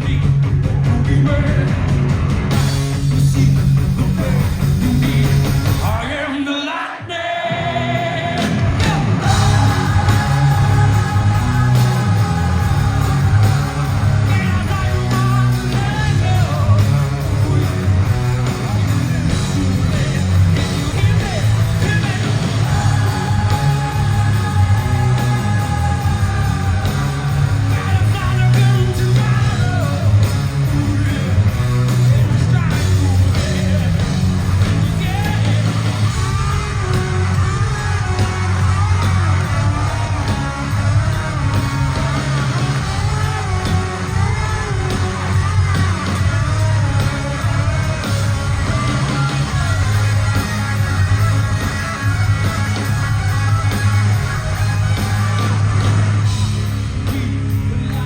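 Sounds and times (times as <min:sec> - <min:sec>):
live rock band playing: 0:00.0 - 0:06.3, 0:07.5 - 0:58.0
person singing and shouting: 0:05.0 - 0:18.1, 0:19.2 - 0:58.0.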